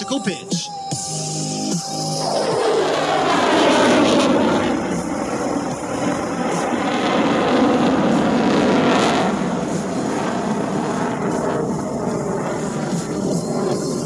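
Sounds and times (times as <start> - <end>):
loud fighter jet noise: 0.9 - 14.0.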